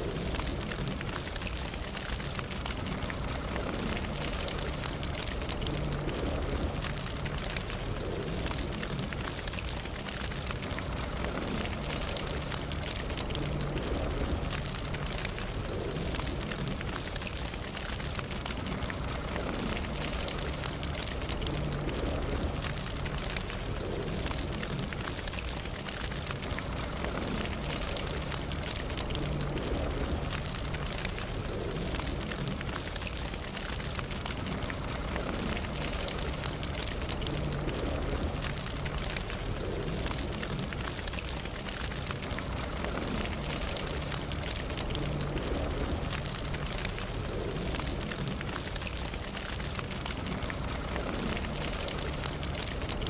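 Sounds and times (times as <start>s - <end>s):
campfire crackling: 0.0s - 53.0s.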